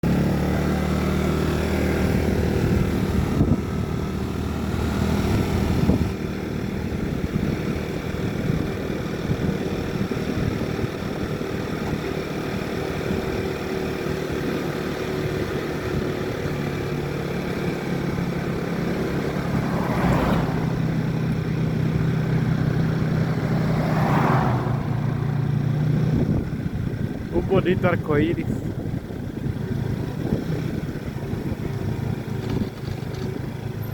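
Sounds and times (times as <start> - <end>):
vehicle engine humming: 0.0 - 33.9.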